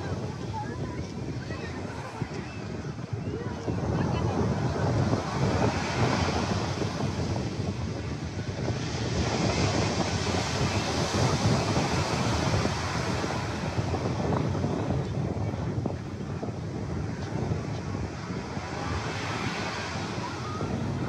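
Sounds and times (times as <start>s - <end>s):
surf breaking on beach: 0.0s - 21.0s
wind buffeting microphone: 0.0s - 21.0s.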